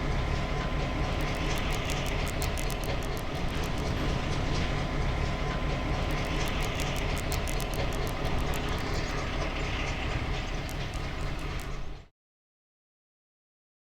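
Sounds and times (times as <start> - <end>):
train rumbling on track: 0.0 - 12.1
wheels clicking: 0.4 - 12.0.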